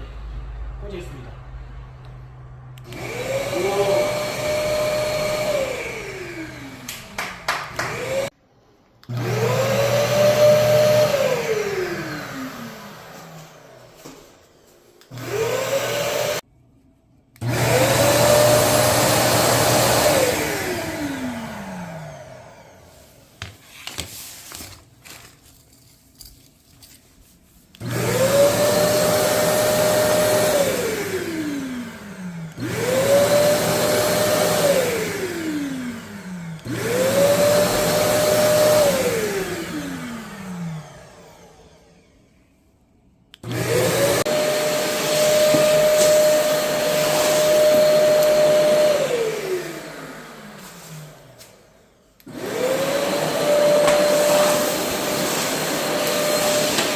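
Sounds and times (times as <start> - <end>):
vacuum cleaner motor whine: 2.8 - 8.4, 9.0 - 16.4, 17.4 - 24.0, 27.7 - 56.9.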